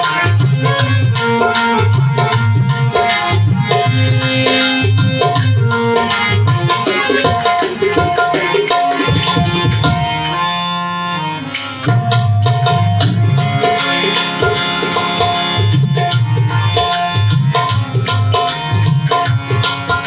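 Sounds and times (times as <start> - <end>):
hand drums beating: 0.0 - 10.4, 11.6 - 20.0
harmonium sustained notes: 0.0 - 20.0.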